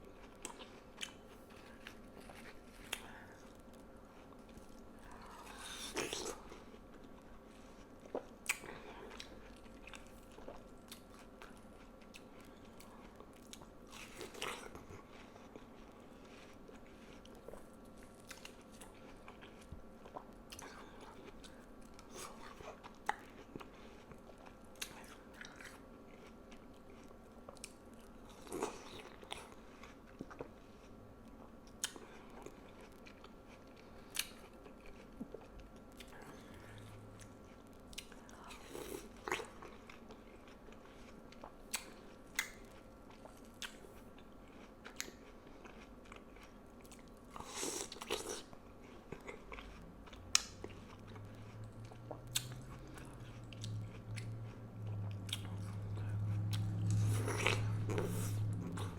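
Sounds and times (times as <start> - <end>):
chewing watermelon: 0.0 - 58.9.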